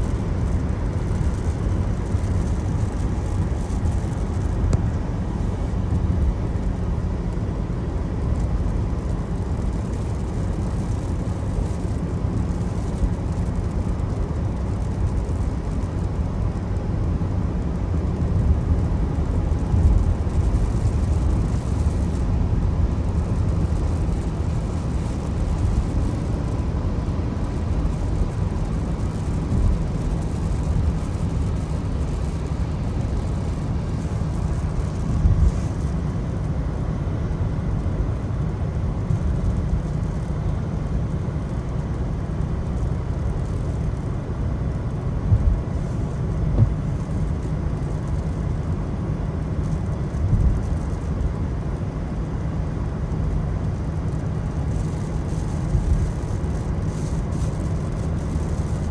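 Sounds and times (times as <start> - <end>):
car driving on wet road: 0.0 - 58.9
rain and road spray: 0.0 - 58.9.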